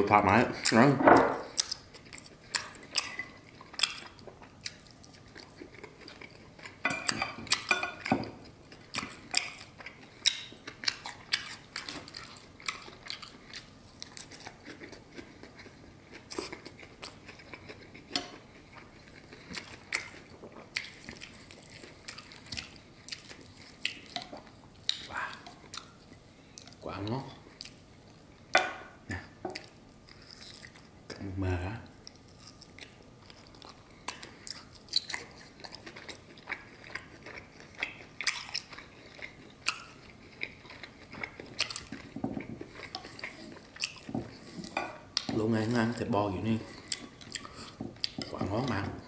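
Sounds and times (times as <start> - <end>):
person chewing steak: 1.4 - 26.8, 27.4 - 31.2, 31.8 - 49.0.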